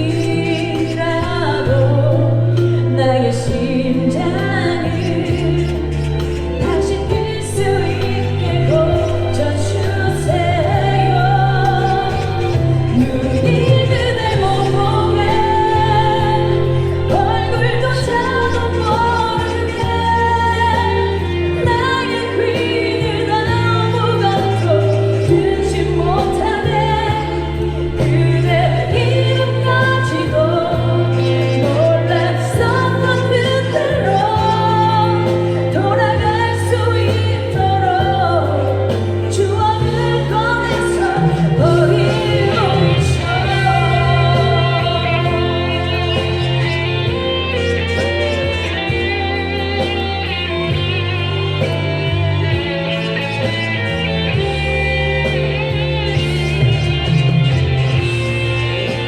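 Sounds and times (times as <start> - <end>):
backing track with bass line: 0.0 - 59.0
woman singing pop song: 0.0 - 59.0.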